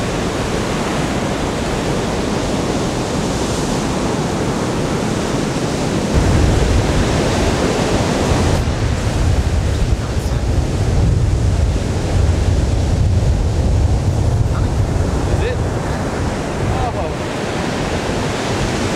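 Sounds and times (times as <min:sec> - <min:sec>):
ocean waves breaking: 0:00.0 - 0:18.9
wind buffeting microphone: 0:00.0 - 0:18.9.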